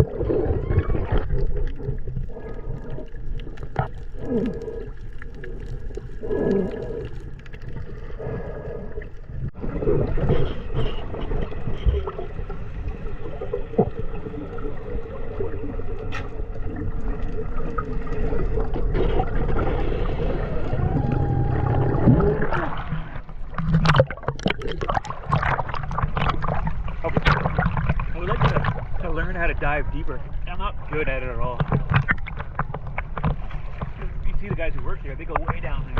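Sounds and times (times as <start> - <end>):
water gurgling and sloshing: 0.0 - 35.9.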